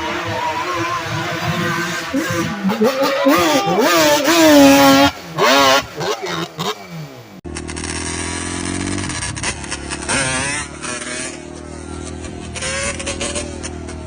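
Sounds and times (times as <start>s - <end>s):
two-stroke engine running: 2.2s - 14.0s.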